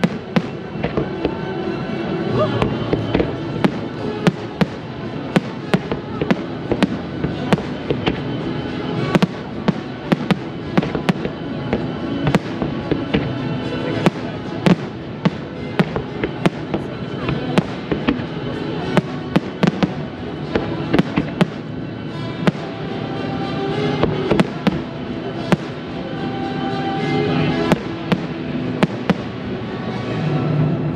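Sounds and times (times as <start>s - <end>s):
music playing: 0.0s - 30.9s.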